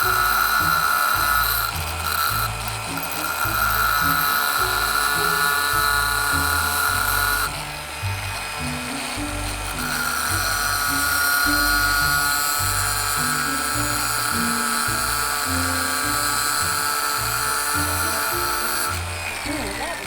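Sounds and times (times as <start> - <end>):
angle grinder cutting metal: 0.0 - 20.0
background music with bass: 0.0 - 20.0.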